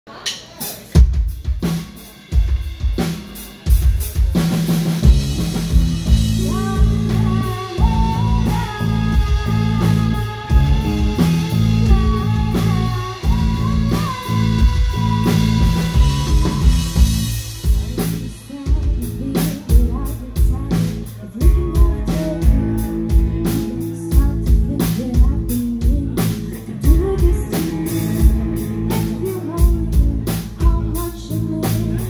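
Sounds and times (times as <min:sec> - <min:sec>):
drum kit hits and fills: 0:00.1 - 0:32.0
live band music: 0:00.1 - 0:32.0
bass: 0:01.0 - 0:32.0
held melody line: 0:05.0 - 0:32.0.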